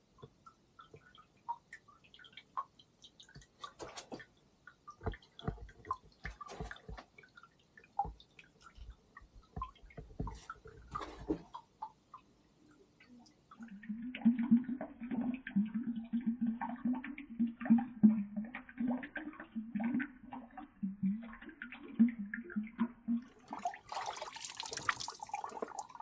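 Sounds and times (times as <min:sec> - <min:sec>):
water dripping and trickling: 0:00.0 - 0:26.0.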